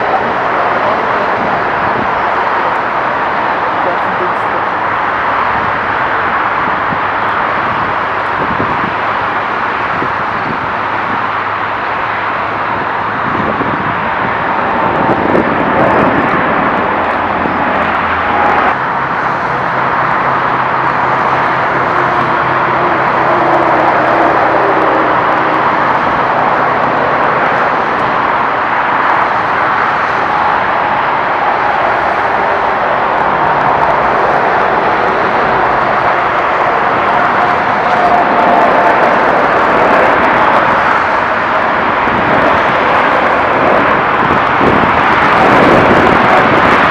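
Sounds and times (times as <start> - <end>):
jet engines at takeoff: 0.0 - 46.9.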